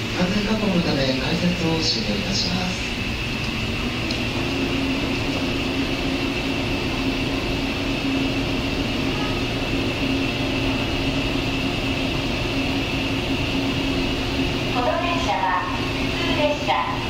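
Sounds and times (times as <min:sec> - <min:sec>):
thin high whine: 0:00.0 - 0:17.0
train equipment low hum: 0:00.0 - 0:17.0.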